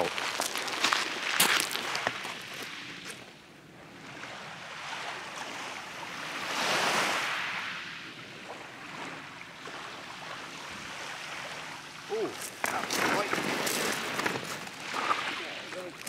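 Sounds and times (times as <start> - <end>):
small waves washing ashore: 0.0 - 16.0.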